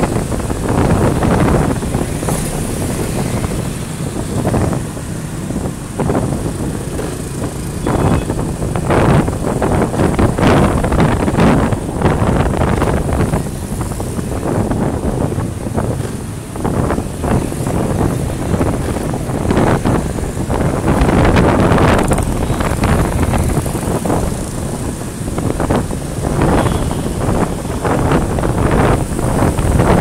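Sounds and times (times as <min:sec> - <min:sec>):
motorbike engines running: 0:00.0 - 0:30.0
wind buffeting microphone: 0:00.0 - 0:30.0.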